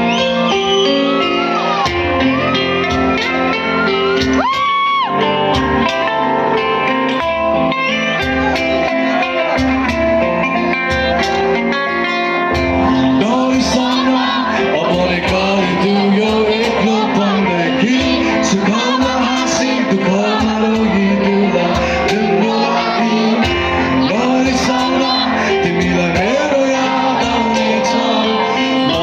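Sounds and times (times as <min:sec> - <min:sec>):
live band with guitar: 0:00.0 - 0:29.0
person singing: 0:00.0 - 0:29.0.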